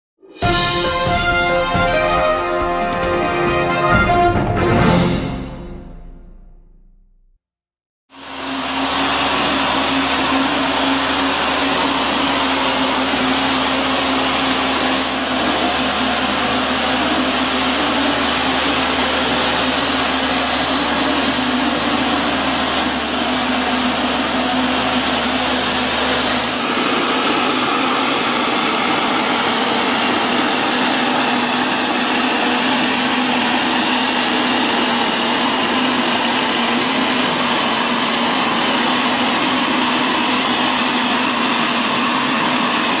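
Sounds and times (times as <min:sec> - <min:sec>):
mortar pump mechanical drone: 0:08.1 - 0:43.0.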